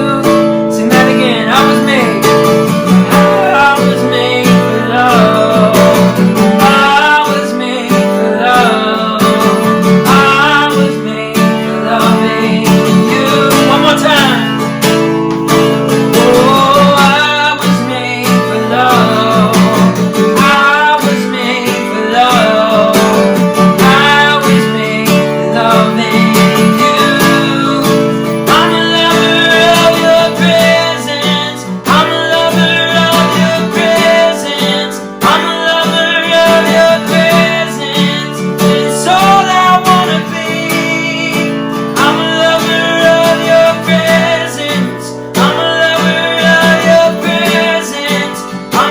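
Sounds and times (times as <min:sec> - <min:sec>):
person singing slow melody: 0:00.0 - 0:48.9
strummed acoustic guitar: 0:00.0 - 0:48.9.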